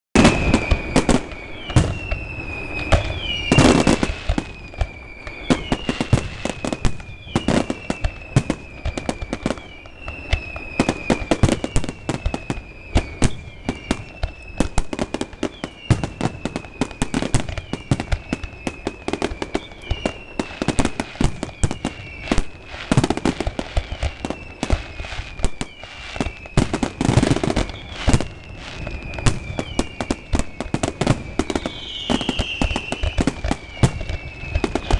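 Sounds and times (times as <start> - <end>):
descending firework whistle: 0.2 - 34.9.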